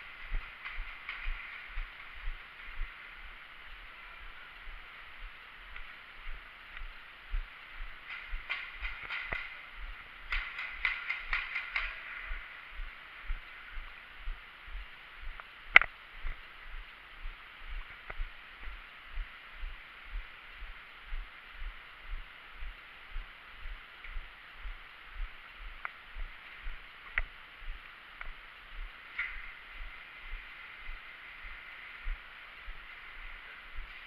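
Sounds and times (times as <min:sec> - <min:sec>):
soft low thumps: 0:00.0 - 0:11.4, 0:12.3 - 0:34.0.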